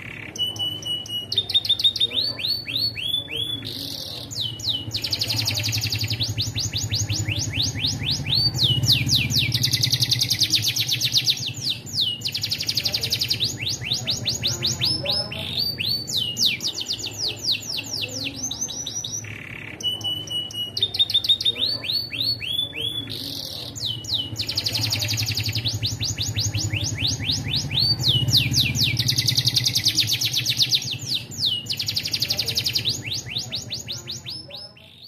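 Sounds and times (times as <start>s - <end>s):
canary singing trills: 0.0s - 35.0s.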